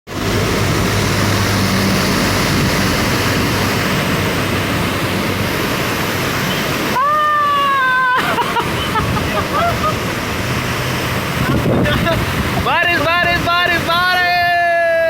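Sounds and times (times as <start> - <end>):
heavy rain pouring: 0.1 - 15.0.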